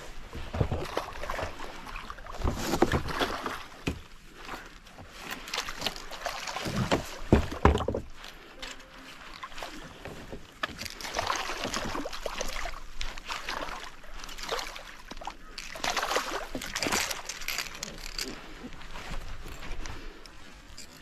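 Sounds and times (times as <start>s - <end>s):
water sloshing around boat: 0.0s - 21.0s.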